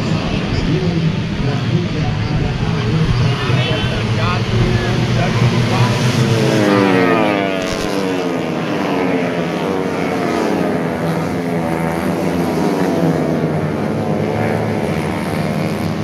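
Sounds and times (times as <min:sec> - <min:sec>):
race motorcycles passing at high revs: 0:00.0 - 0:16.0.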